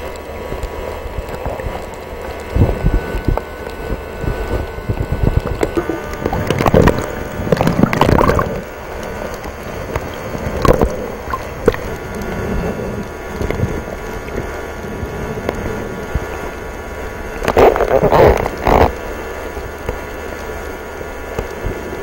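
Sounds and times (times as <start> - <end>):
faint steady hum: 0.0 - 22.0
water bubbling and sloshing: 0.0 - 22.0.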